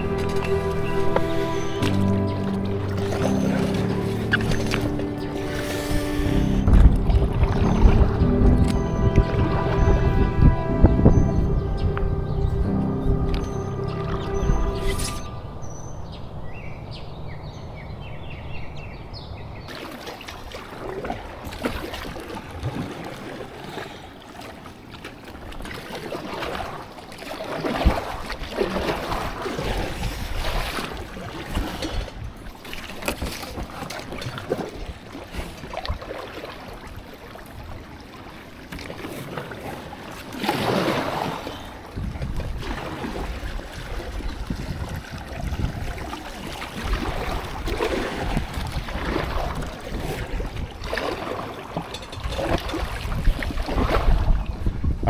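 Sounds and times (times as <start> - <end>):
river water rushing and splashing: 0.0 - 54.6.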